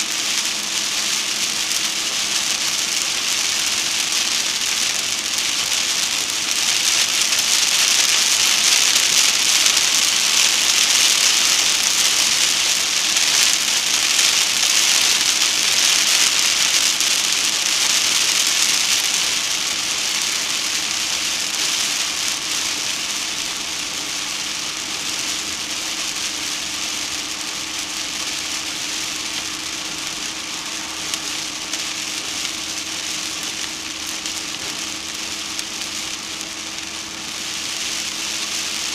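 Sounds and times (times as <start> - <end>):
rain pattering on a car: 0.0 - 38.9
tyre spray hiss: 0.0 - 38.9.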